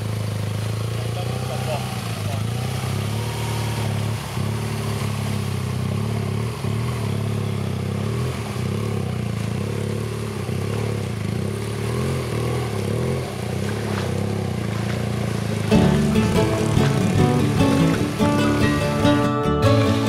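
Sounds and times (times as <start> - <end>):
motorcycle engine at low revs: 0.0 - 20.0.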